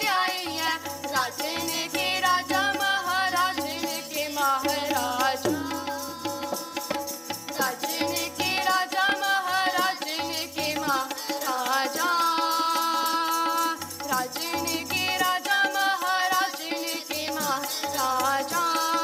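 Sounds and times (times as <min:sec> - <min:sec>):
harmonium: 0:00.0 - 0:19.0
tabla drumming: 0:00.0 - 0:19.0
voices singing: 0:00.0 - 0:19.0.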